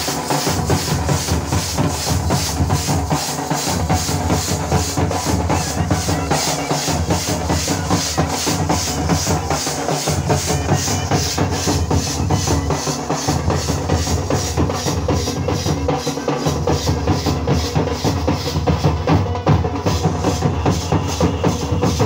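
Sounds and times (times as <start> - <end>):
hand cymbals clashing: 0.0 - 19.1
deep drum beats: 0.0 - 22.0.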